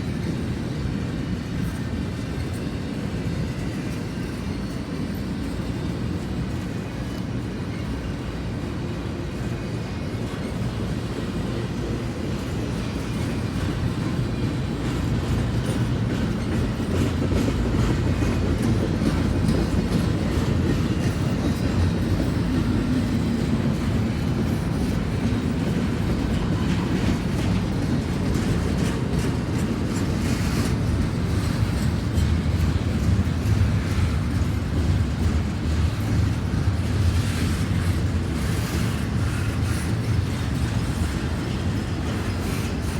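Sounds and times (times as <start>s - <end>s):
freight train rumbling past: 0.0s - 42.9s
wheels clicking on rail: 0.2s - 42.9s.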